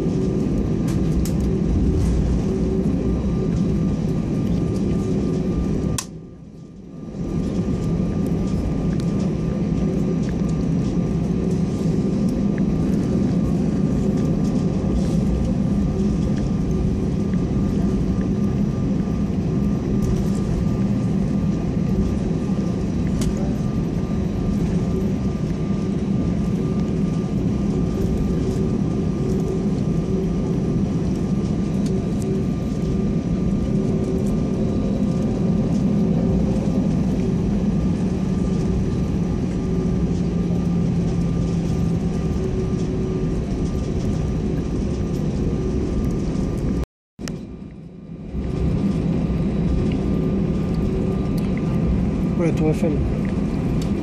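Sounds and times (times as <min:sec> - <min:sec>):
jet engines idling rumble: 0:00.0 - 0:54.0.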